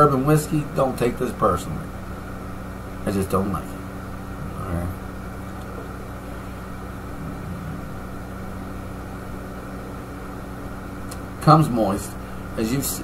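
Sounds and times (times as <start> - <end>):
electric fan motor hum: 0.0 - 13.0.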